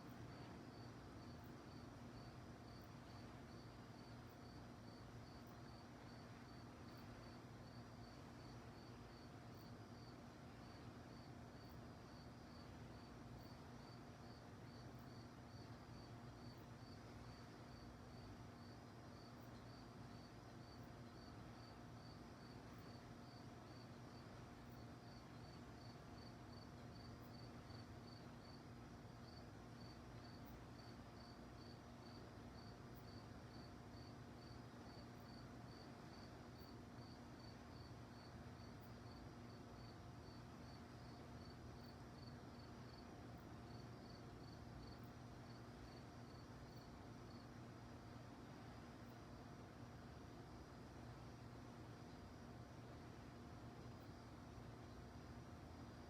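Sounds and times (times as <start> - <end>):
cricket chirping faintly: 0.0 - 56.0.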